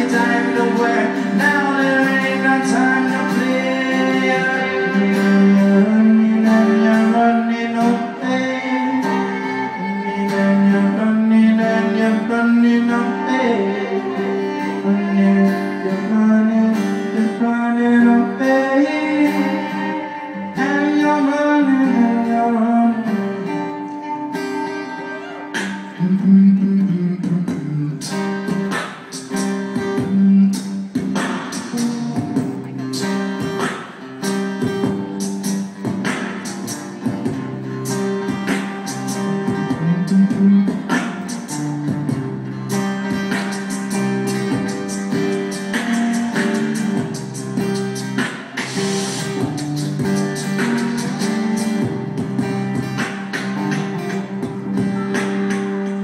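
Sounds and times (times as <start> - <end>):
guitar music: 0.0 - 56.0.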